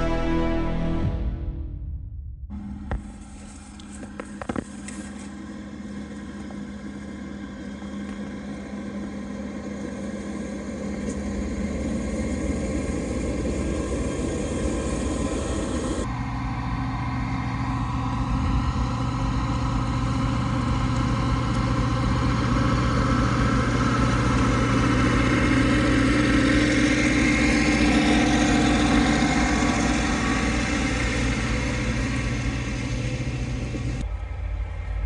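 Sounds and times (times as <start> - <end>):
tractor engine passing: 2.5 - 35.0.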